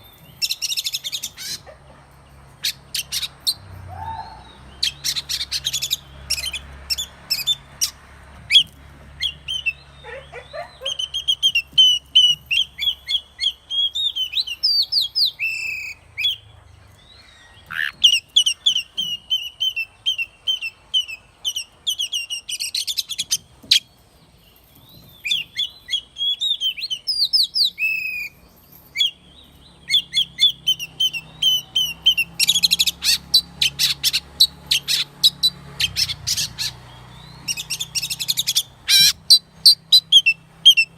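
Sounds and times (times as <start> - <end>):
bird singing whistled notes: 2.6 - 16.4, 17.1 - 23.9, 24.5 - 40.9.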